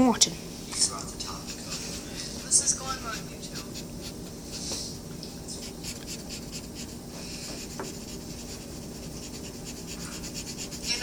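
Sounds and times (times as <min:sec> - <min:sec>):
coloring strokes on paper: 0:01.2 - 0:04.8, 0:05.6 - 0:11.0.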